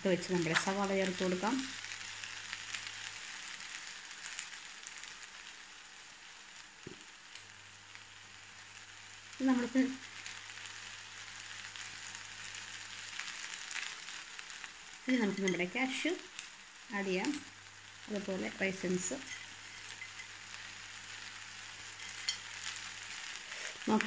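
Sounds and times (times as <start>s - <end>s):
fried rice sizzling in a pan: 0.0s - 24.0s.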